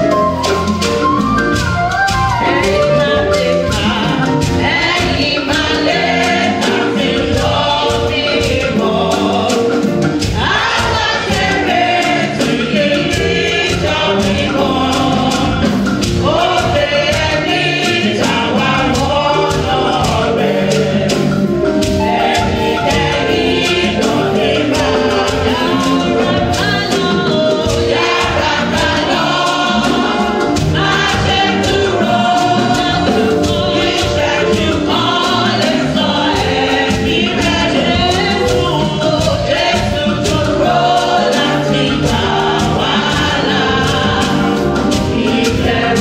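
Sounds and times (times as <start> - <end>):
choir singing gospel song: 0.0 - 46.0
drums: 0.0 - 46.0
keyboard: 0.0 - 46.0.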